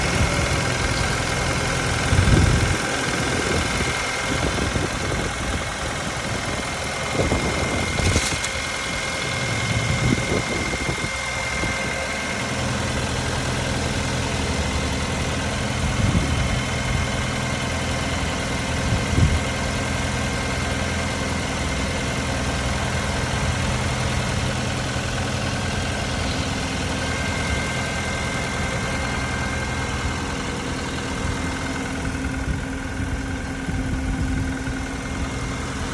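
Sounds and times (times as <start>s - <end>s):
engine revving blips: 0.0s - 17.2s, 21.6s - 35.9s
car engine idling: 0.0s - 35.9s.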